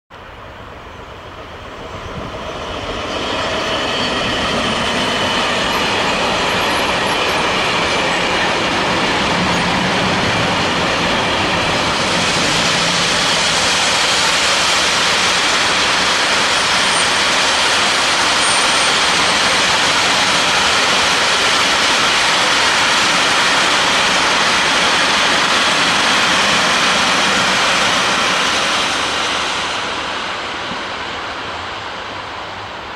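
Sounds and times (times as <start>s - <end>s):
freight train wheels on rails: 0.2s - 32.9s.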